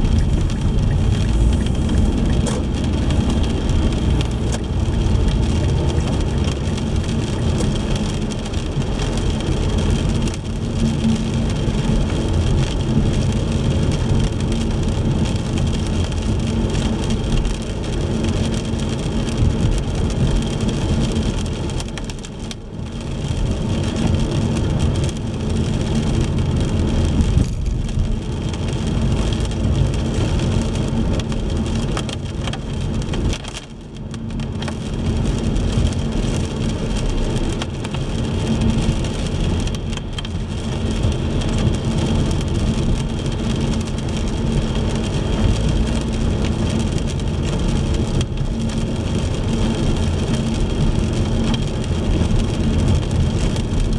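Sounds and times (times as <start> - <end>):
rain on car: 0.0 - 53.9
road and tyre noise: 0.0 - 53.9.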